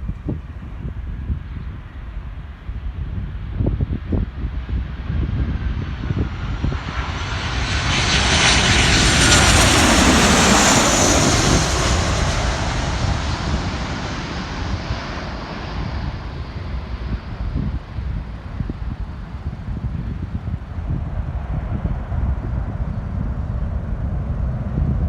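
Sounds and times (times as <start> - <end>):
jet airliner passing: 0.6 - 25.0.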